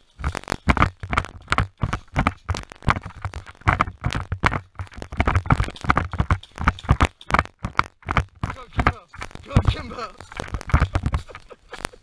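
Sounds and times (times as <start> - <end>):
running footsteps on dry leaves: 0.0 - 11.9.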